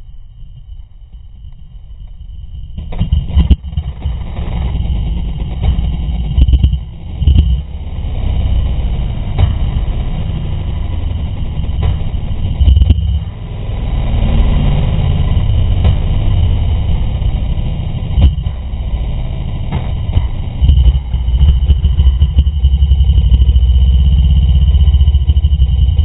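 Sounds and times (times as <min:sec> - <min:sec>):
dirt bike engine running: 0:02.1 - 0:26.0.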